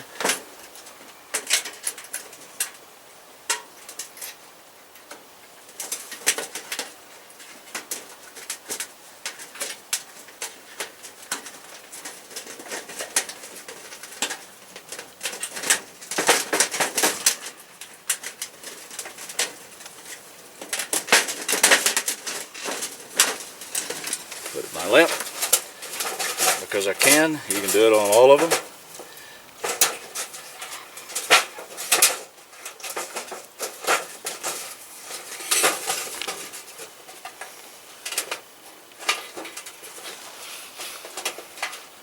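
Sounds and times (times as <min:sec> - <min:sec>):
metal panels clicking and rattling: 0:05.8 - 0:40.1.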